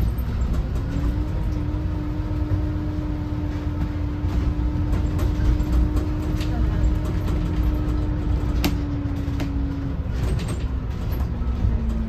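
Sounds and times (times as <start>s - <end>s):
diesel bus engine rumble: 0.0s - 12.0s.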